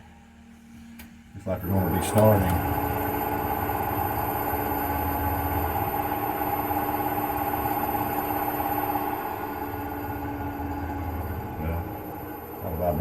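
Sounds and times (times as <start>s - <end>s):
wood lathe motor running: 1.5s - 13.0s.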